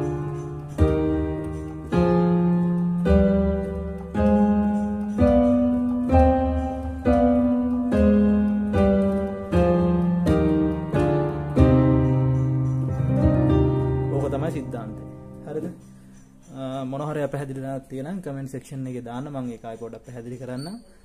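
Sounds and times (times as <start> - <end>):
piano chords ringing: 0.0 - 21.0.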